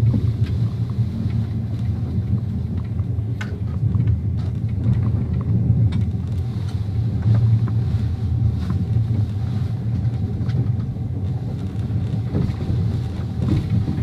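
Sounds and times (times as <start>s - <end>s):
faint clicks and knocks: 0.0s - 8.0s, 8.6s - 14.0s
train rumbling: 0.0s - 14.0s.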